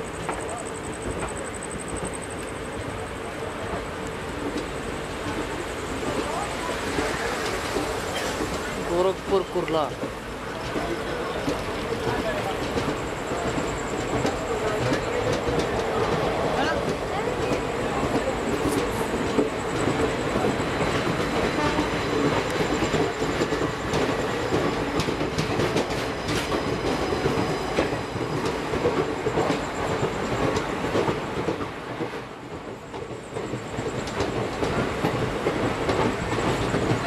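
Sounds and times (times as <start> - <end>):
train wheels rumbling on track: 0.0 - 37.0
wheels clicking over rail joints: 0.2 - 37.0.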